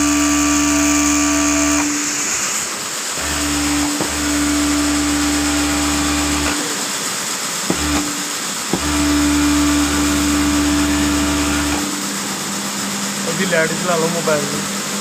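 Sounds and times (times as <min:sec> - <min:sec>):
sewing machine motor humming: 0:00.0 - 0:12.4.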